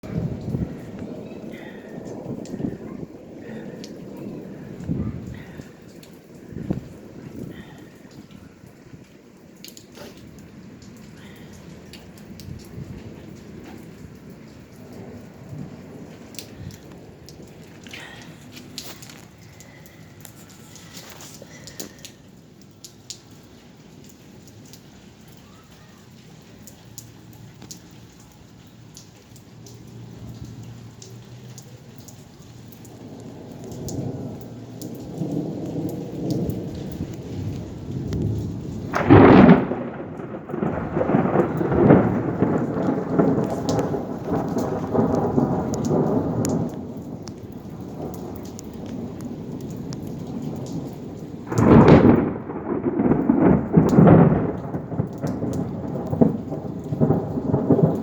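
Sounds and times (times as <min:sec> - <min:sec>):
rolling thunder: 0:00.0 - 0:22.3, 0:26.7 - 0:58.0
thunderclaps: 0:00.0 - 0:23.2, 0:27.0 - 0:58.0
rain pattering: 0:00.0 - 0:58.0.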